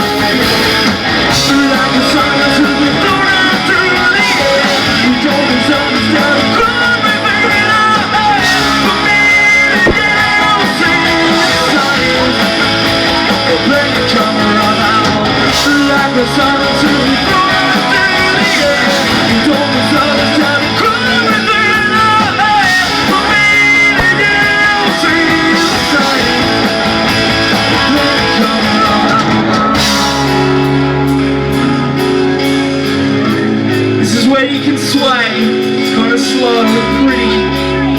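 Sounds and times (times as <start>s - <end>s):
guitar chords ringing: 0.0s - 37.9s
live rock band playing: 0.0s - 37.9s.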